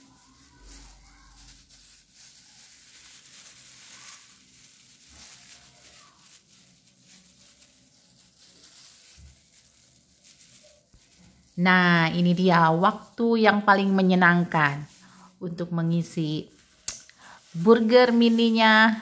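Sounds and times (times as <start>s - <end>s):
plastic gloves and lettuce rustling: 0.0s - 19.0s.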